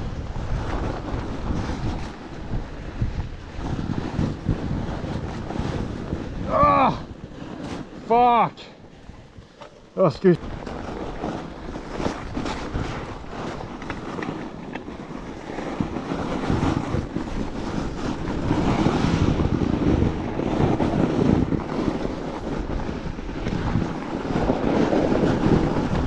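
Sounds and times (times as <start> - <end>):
bike tyres rolling on snow: 0.0 - 26.0
wind buffeting microphone: 0.0 - 26.0.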